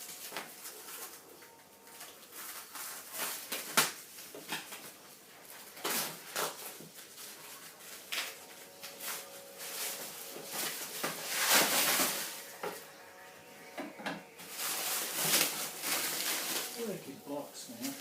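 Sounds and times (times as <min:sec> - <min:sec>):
packaging rustling and scraping: 0:00.0 - 0:18.0.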